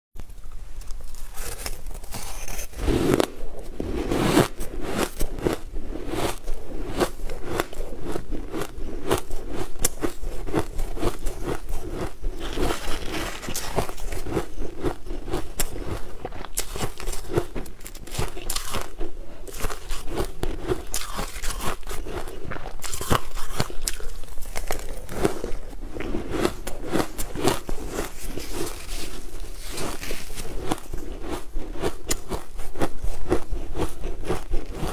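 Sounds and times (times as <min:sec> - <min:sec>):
chewing crunchy ice: 0:01.2 - 0:34.9.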